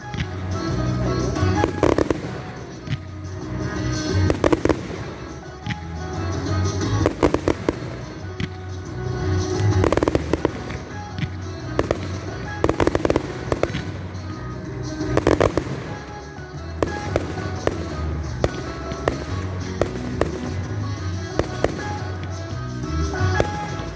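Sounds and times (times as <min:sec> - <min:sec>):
fireworks bangs and crackles: 0:00.0 - 0:23.9
music playing: 0:00.0 - 0:23.9.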